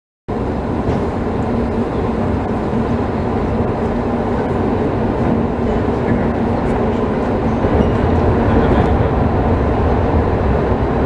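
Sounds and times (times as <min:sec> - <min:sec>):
metro station rumbling hum: 0:00.3 - 0:11.0.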